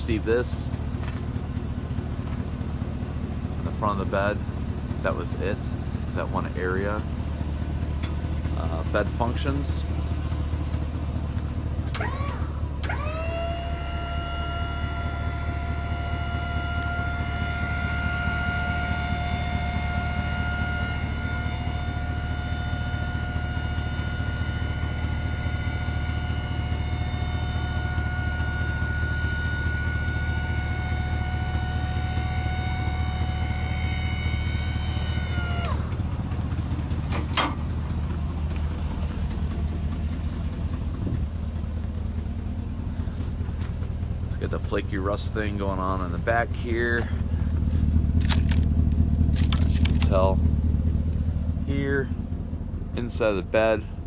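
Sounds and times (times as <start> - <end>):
hydraulic pump whining: 0.0 - 54.0
truck engine idling: 0.0 - 54.0.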